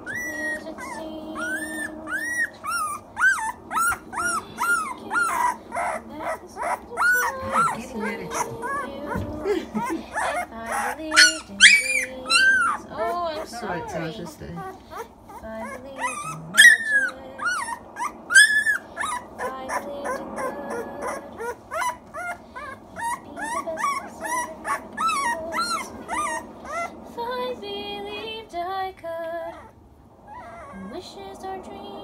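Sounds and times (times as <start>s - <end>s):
puppy yelping and whining: 0.0s - 27.0s, 29.5s - 30.9s.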